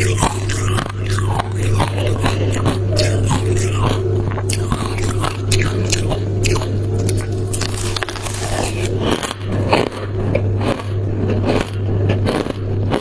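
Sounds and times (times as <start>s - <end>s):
ice crunching being chewed: 0.0s - 13.0s
steady low hum: 0.0s - 13.0s.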